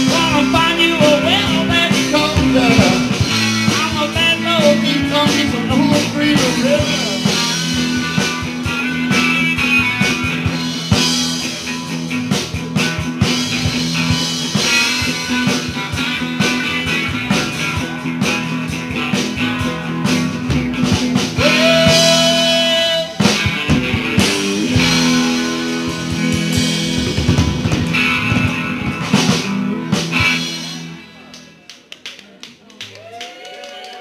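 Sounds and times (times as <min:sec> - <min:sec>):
rock band playing: 0:00.0 - 0:31.7.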